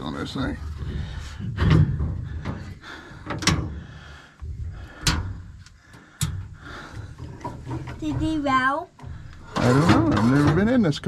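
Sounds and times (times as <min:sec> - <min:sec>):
low rumbling handling noise: 0:00.0 - 0:11.0
knocks and clunks: 0:00.6 - 0:11.0.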